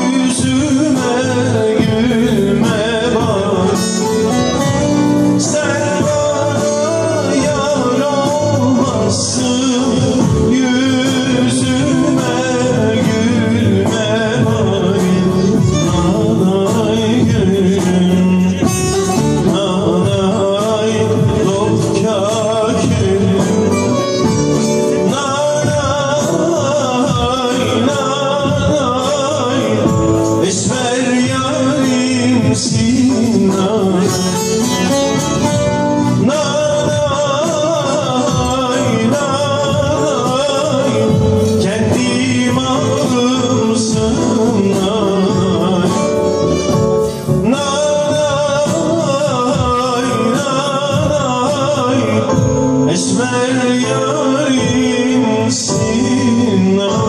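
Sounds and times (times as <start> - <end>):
lute and band accompaniment: 0.0 - 57.0
man singing with vibrato: 0.0 - 57.0.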